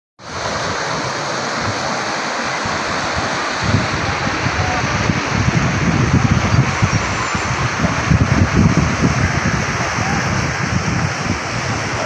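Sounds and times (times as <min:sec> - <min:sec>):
floodwater rushing: 0:00.2 - 0:12.0
wind buffeting microphone: 0:00.3 - 0:12.0.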